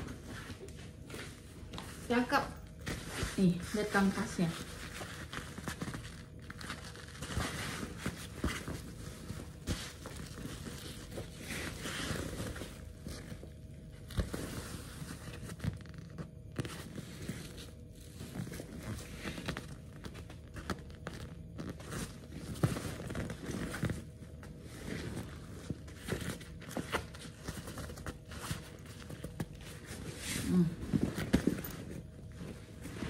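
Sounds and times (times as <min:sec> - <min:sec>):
backpack fabric rustling: 0:02.7 - 0:33.0.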